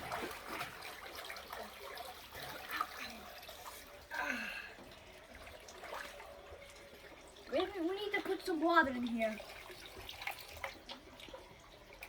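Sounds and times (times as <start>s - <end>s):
pool water sloshing and dripping: 0.0s - 12.0s.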